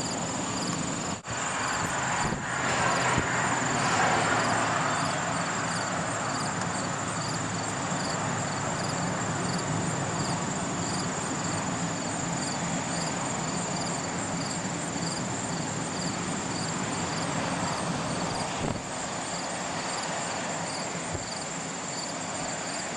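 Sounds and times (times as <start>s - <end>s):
continuous high trill: 0.0s - 22.9s
crickets chirping: 0.0s - 22.9s.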